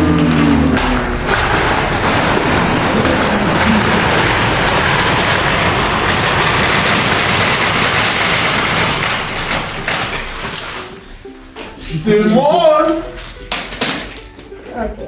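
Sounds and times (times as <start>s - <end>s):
crinkling snack wrappers pouring: 0.0s - 11.0s, 12.8s - 14.6s.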